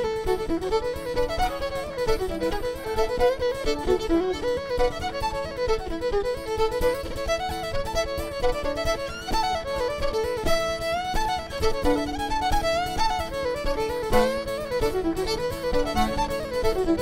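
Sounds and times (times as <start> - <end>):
fiddle playing a fast tune: 0.0 - 17.0.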